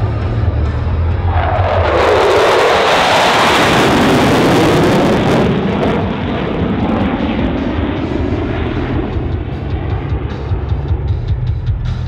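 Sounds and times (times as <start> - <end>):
jet roaring overhead: 0.0 - 11.5.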